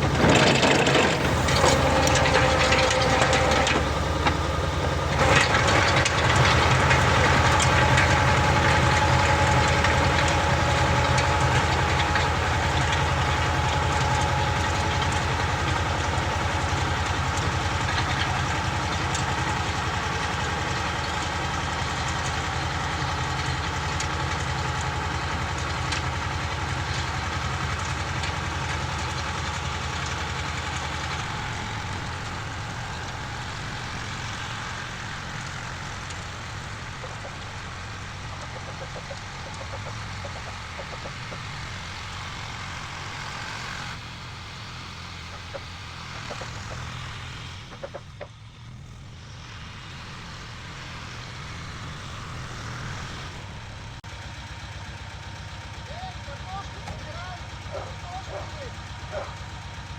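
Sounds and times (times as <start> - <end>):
tiller engine running: 0.0 - 59.9.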